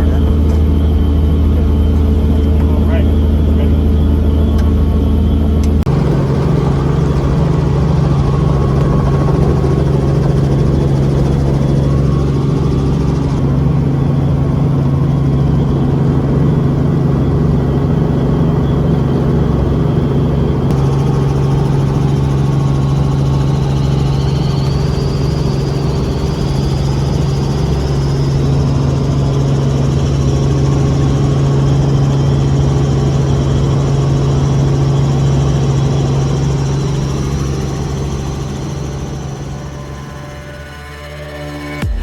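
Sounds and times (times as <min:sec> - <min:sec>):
helicopter engine and rotors: 0:00.0 - 0:42.0.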